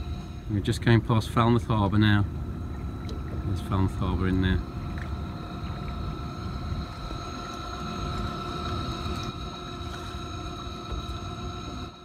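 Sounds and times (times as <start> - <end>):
electric outboard motor whine: 0.0 - 12.0
rushing water and wind: 0.0 - 12.0.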